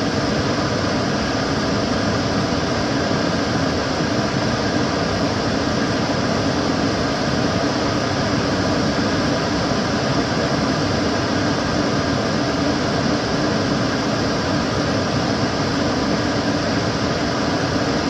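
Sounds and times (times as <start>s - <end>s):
extractor fan running: 0.0s - 18.0s.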